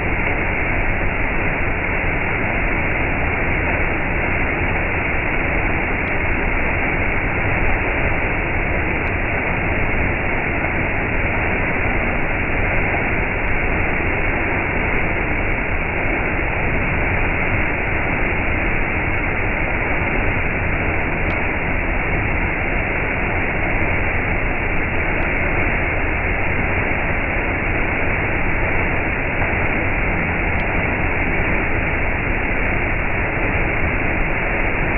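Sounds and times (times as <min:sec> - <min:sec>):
steady rushing noise: 0:00.0 - 0:34.9.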